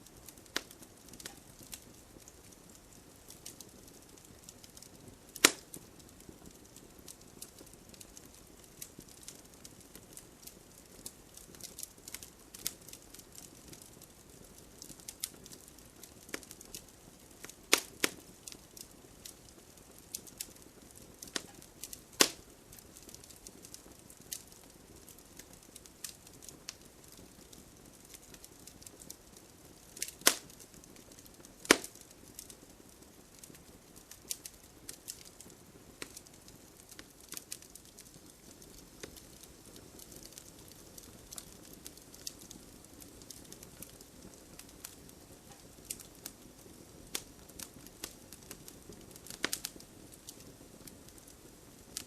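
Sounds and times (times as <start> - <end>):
faint steady hiss: 0.0 - 52.0
wood fire crackling: 0.0 - 52.0.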